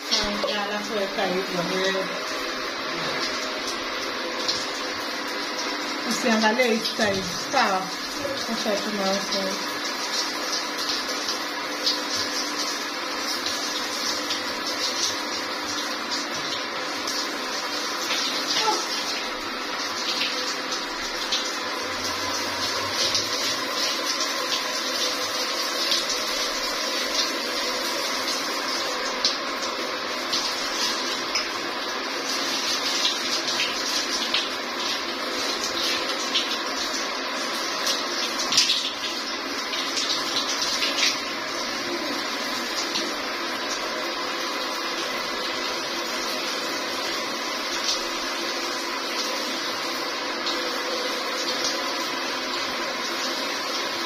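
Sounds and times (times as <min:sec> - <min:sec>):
shower water running: 0:00.0 - 0:54.0.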